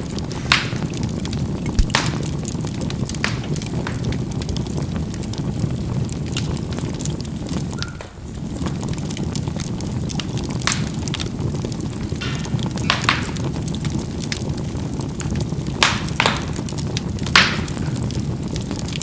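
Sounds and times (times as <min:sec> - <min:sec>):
charcoal popping and crackling: 0:00.0 - 0:19.0
fire rumbling: 0:00.0 - 0:19.0.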